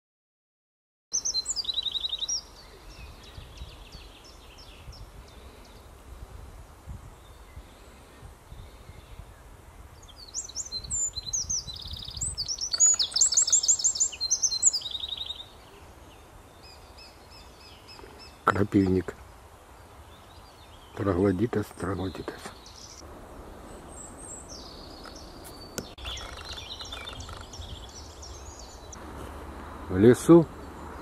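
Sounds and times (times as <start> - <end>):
wren singing trills: 1.1 - 5.9, 7.1 - 23.0, 23.6 - 29.0.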